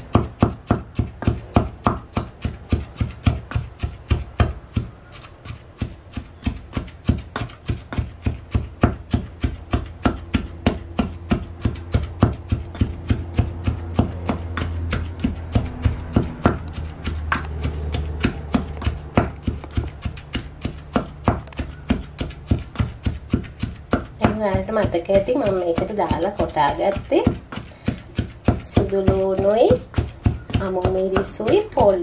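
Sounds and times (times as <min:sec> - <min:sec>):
pestle pounding in a mortar: 0:00.0 - 0:32.0.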